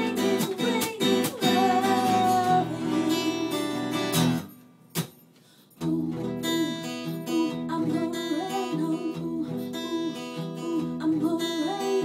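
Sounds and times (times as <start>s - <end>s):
woman singing: 0.0s - 4.1s, 5.8s - 12.0s
acoustic guitar strumming: 0.0s - 5.2s, 5.8s - 12.0s.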